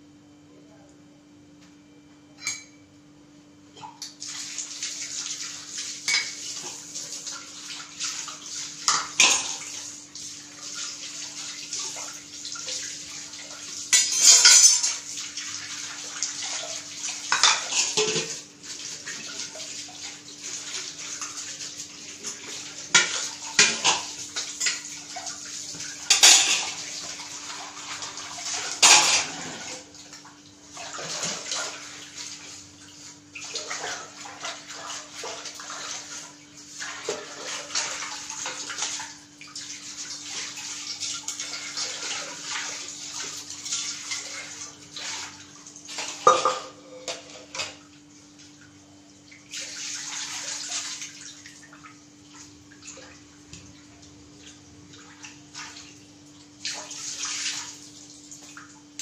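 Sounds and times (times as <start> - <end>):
pot bubbling and spluttering: 3.8 - 57.0.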